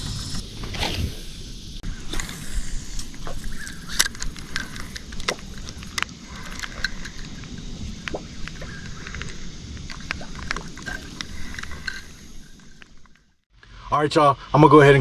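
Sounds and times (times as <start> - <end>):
water wash against kayak hull: 0.0 - 13.4.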